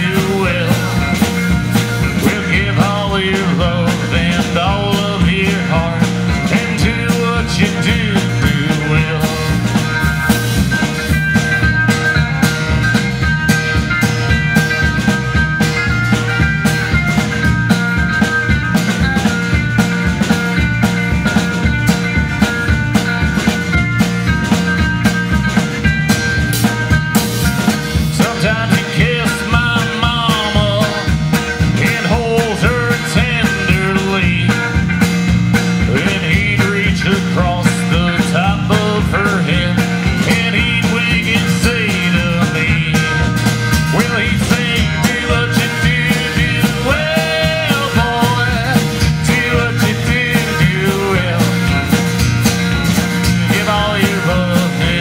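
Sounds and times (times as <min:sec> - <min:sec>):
drum kit beat: 0:00.0 - 0:55.0
electric bass: 0:00.0 - 0:55.0
melodic lead line: 0:00.0 - 0:55.0
strummed acoustic guitar: 0:00.0 - 0:55.0.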